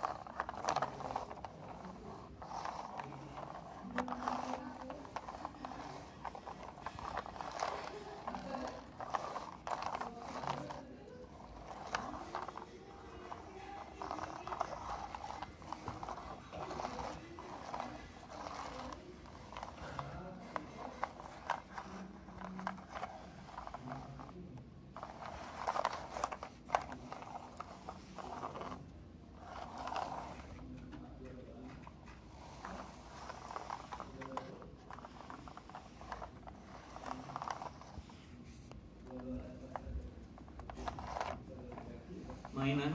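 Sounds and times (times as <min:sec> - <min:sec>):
plastic toy truck rattling on carpet: 0:00.0 - 0:24.4, 0:25.0 - 0:30.6, 0:32.2 - 0:38.3, 0:39.0 - 0:42.9.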